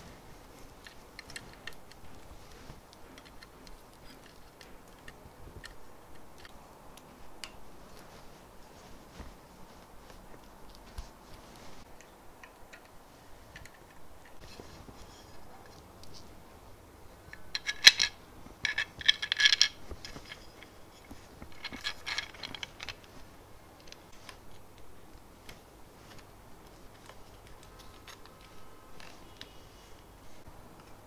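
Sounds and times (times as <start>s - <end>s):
metal fasteners clinking: 0.0s - 8.4s, 11.9s - 29.6s.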